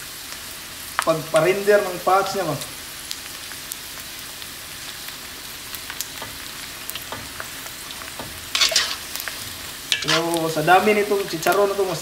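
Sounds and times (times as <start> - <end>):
fat deep-frying sizzle: 0.0 - 12.0.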